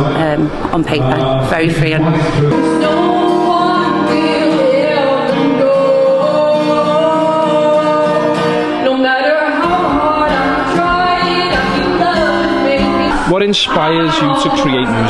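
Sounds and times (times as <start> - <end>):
acoustic guitar: 0.0 - 15.0
person singing: 2.2 - 15.0.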